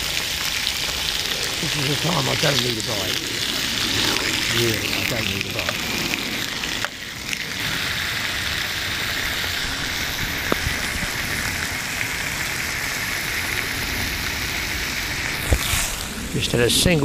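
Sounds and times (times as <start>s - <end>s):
bacon sizzling in a frying pan: 0.0s - 17.0s.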